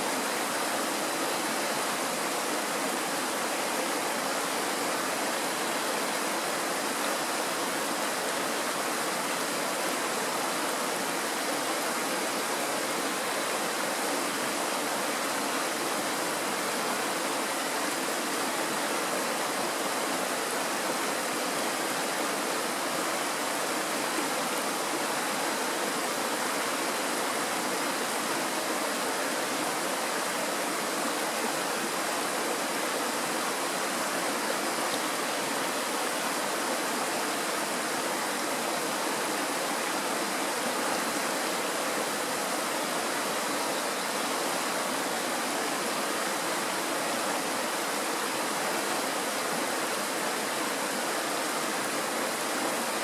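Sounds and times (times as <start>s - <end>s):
stream rushing over stones: 0.0s - 53.0s.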